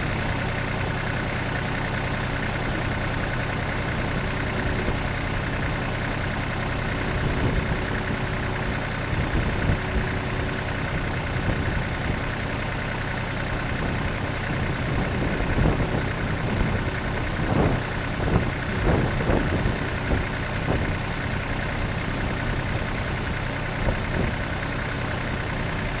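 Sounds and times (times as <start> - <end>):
lawn mower engine idling: 0.0 - 26.0.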